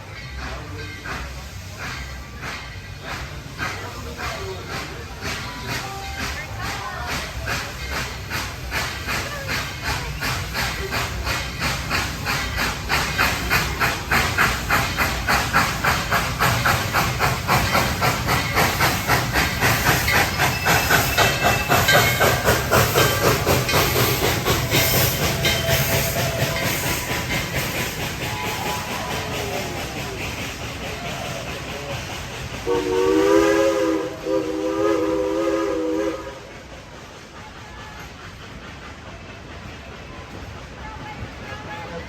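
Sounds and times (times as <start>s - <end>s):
steam hissing: 0.0s - 42.0s
steam locomotive chuffing: 0.0s - 42.0s.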